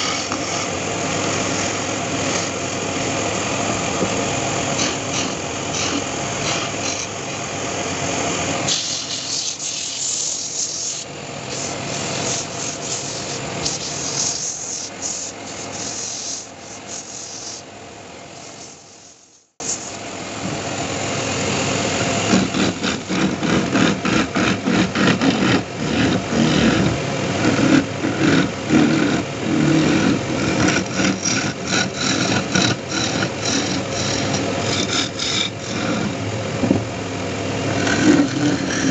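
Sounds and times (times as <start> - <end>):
chisel scraping spinning wood: 0.0 - 7.2, 8.5 - 17.7, 21.9 - 36.8, 37.6 - 38.9
lathe motor hum: 0.0 - 38.9.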